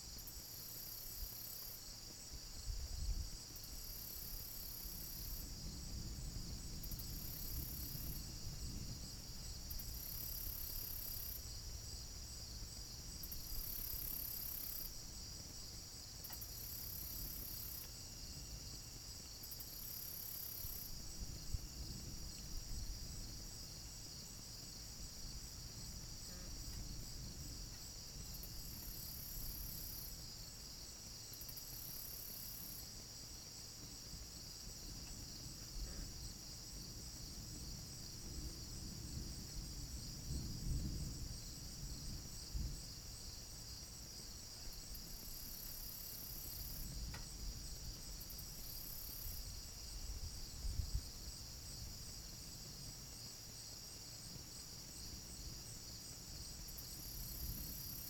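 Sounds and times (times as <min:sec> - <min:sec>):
crickets trilling: 0:00.1 - 0:58.0.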